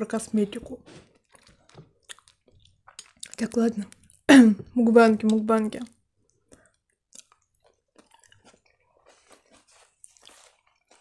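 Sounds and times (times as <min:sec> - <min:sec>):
wet chewing mouth clicks: 0:01.2 - 0:04.3, 0:05.2 - 0:11.0.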